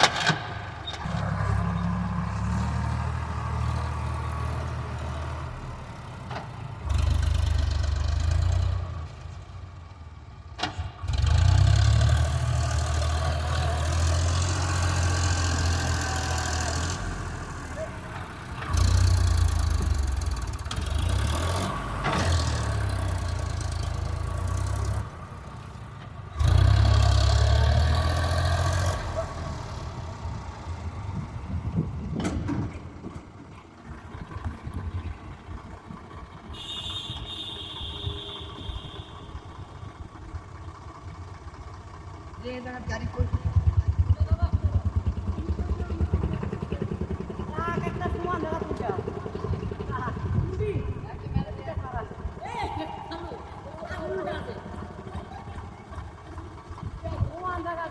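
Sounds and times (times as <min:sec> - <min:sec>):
tractor engine revving and idling: 0:00.0 - 0:57.9.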